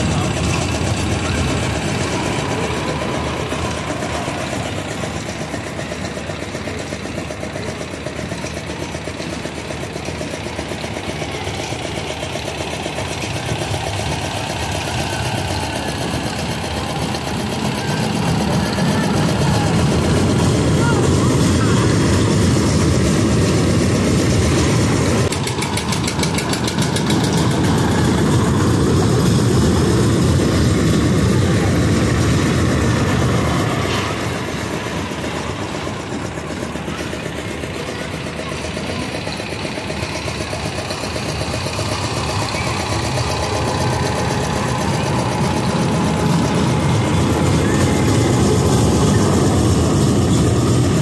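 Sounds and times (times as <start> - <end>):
toy train rumbling on steel track: 0.0 - 51.0.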